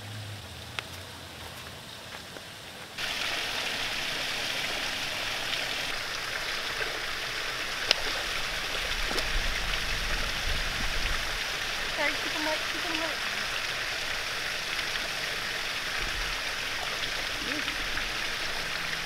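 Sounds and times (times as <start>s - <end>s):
waterfall splashing into pond: 2.9s - 19.0s.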